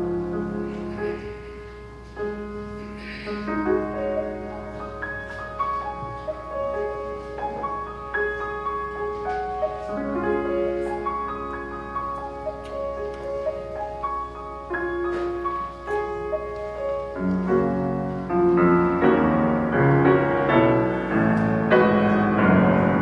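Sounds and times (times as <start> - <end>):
slow keyboard music: 0.0 - 23.0.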